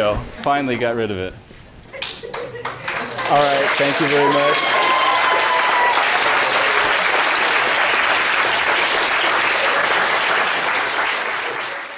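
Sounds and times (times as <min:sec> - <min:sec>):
students applauding: 0:02.0 - 0:11.9.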